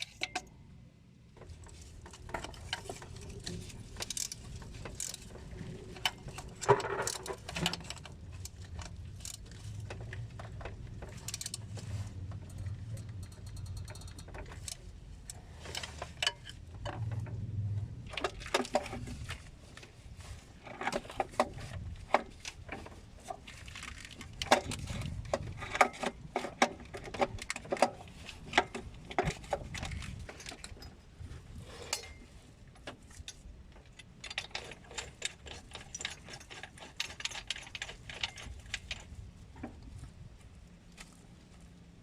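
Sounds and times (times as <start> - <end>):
metal tools clinking and rattling: 1.4 - 17.4, 20.6 - 39.3.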